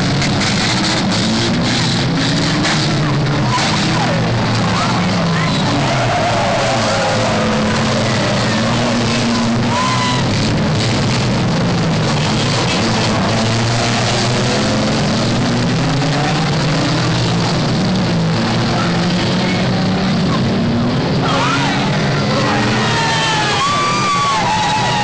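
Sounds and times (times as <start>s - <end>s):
racing car engines: 0.0s - 25.0s.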